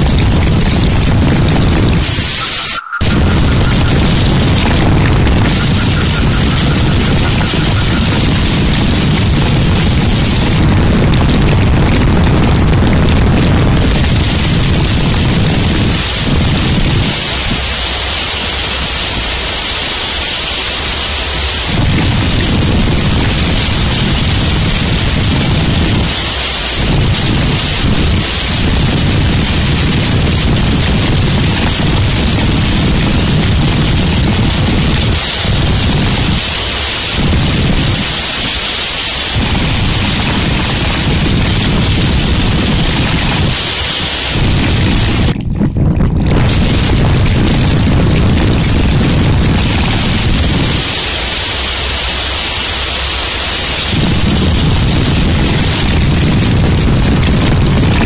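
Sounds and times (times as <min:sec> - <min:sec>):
harsh static noise wall: 0:00.0 - 0:58.0.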